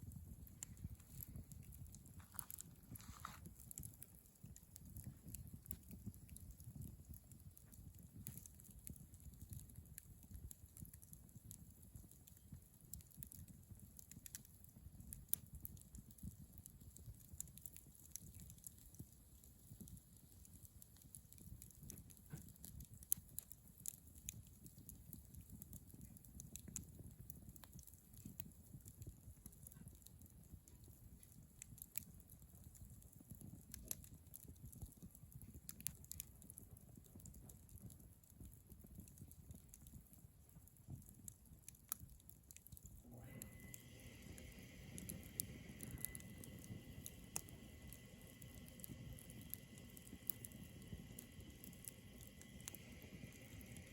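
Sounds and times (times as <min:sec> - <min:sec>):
bonfire crackling and popping: 0:00.0 - 0:53.9
soft low fire rumble: 0:00.0 - 0:53.9.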